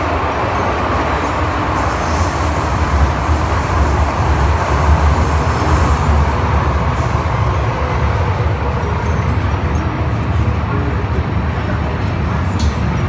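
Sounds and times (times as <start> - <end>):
train running low rumble: 0.0 - 13.0.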